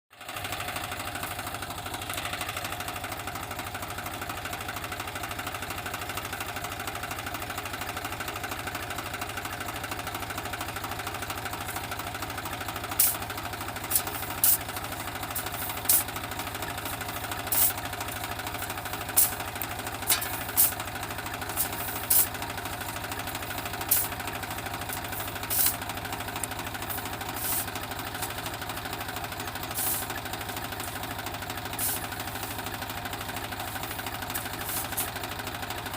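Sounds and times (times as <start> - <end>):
tractor diesel engine knocking: 0.2 - 35.9.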